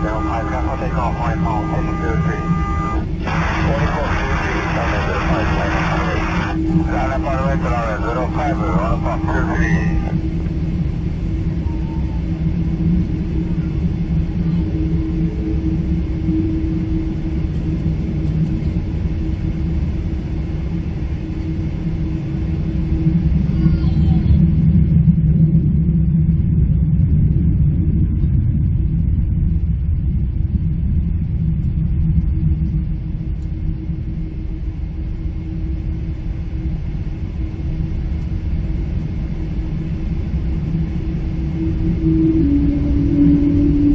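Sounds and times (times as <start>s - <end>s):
airplane cabin engine rumble: 0.0s - 43.9s
constant low hum: 0.0s - 43.9s.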